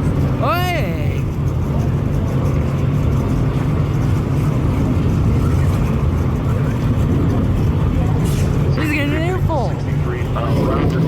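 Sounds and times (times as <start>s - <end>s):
race car engines rumbling: 0.0s - 11.0s.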